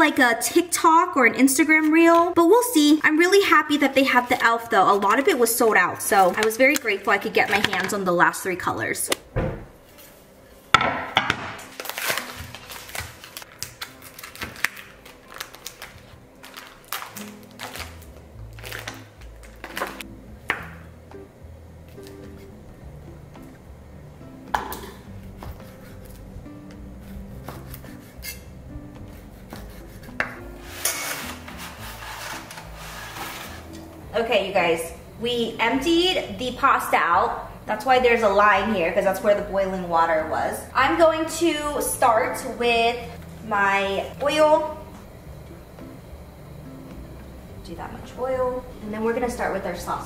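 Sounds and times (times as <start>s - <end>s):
faint background music: 0.0s - 50.0s.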